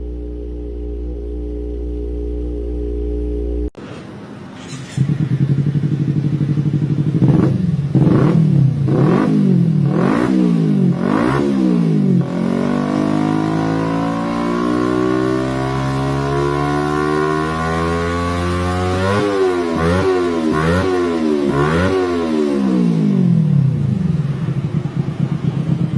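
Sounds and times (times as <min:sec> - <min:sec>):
motorcycle engine revving: 0:00.0 - 0:03.8, 0:04.6 - 0:25.9.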